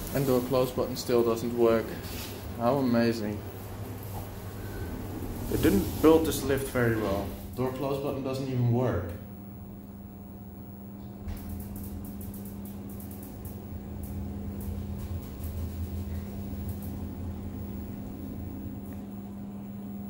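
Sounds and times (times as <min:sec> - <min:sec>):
lift hum and rumble: 0:00.0 - 0:20.0.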